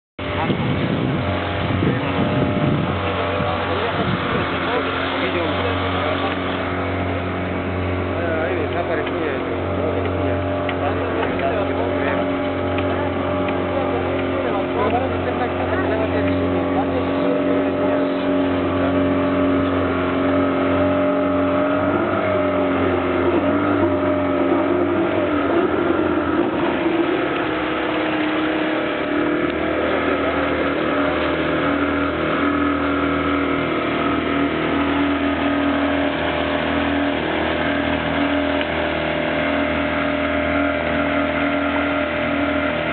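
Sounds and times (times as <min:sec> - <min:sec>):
small outboard motor running: 0:00.2 - 0:42.9.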